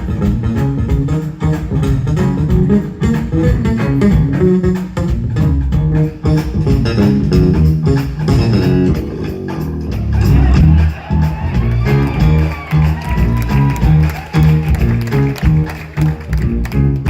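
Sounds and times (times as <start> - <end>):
guitar lines: 0.0 - 17.0
smooth jazz band playing: 0.0 - 17.0.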